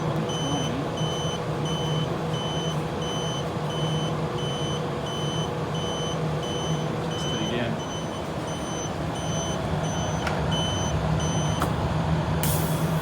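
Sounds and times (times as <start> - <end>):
continuity tester beeping: 0.0 - 11.6.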